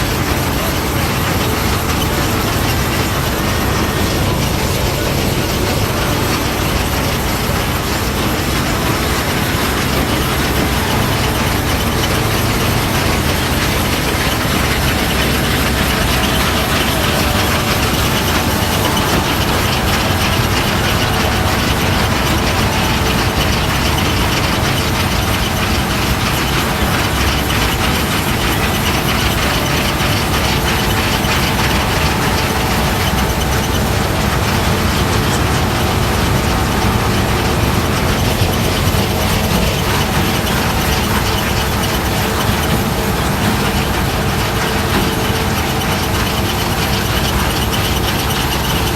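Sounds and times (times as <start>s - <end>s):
engine drone: 0.0s - 48.9s
mechanical clatter: 0.0s - 48.9s.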